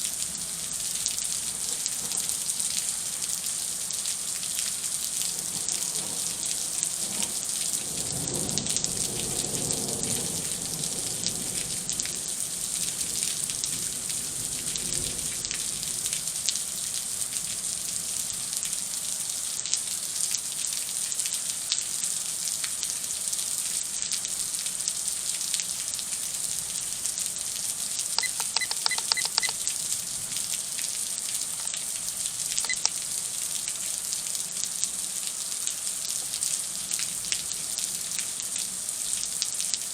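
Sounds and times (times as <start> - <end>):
heavy rain falling: 0.0 - 21.3, 22.0 - 39.9.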